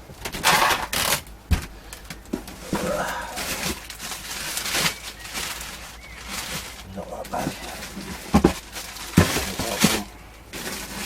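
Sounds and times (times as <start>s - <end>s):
rustling and clatter of cables: 0.0s - 11.0s.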